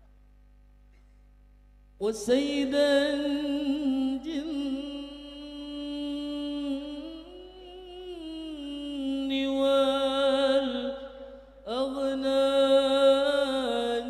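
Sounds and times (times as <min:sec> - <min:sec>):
man singing unaccompanied: 0:02.0 - 0:14.0.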